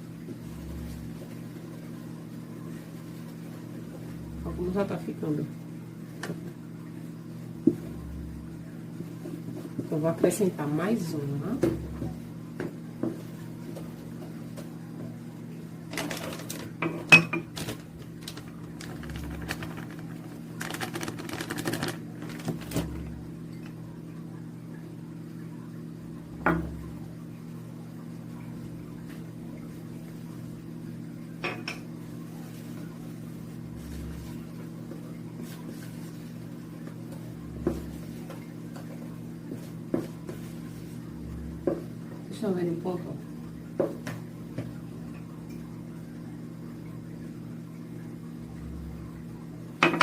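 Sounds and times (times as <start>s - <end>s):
steady low hum: 0.0s - 49.8s.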